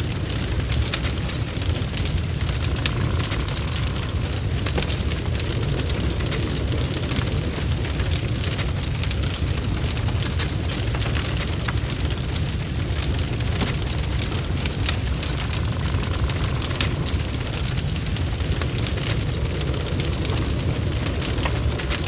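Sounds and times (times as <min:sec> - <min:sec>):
burning wood crackling and popping: 0:00.0 - 0:22.0
wood fire rumbling: 0:00.0 - 0:22.0.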